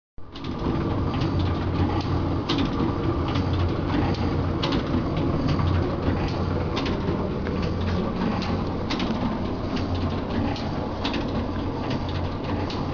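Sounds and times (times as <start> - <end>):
machine clicks and knocks: 0.2 - 12.9
stitching machine humming: 0.3 - 12.9.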